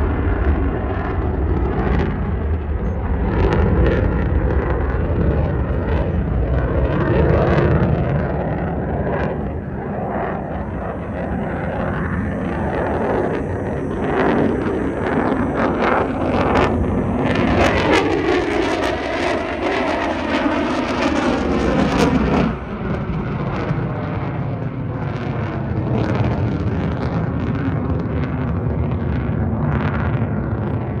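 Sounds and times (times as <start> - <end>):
aircraft engine roar: 0.0 - 31.0
low rumble: 0.0 - 31.0.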